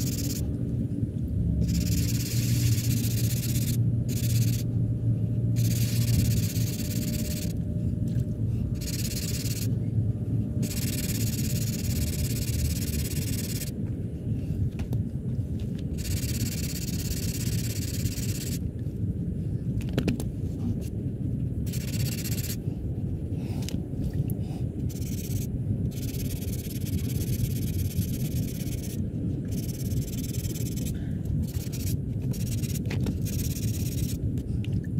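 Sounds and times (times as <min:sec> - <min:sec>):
steady low rumble: 0:00.0 - 0:34.9.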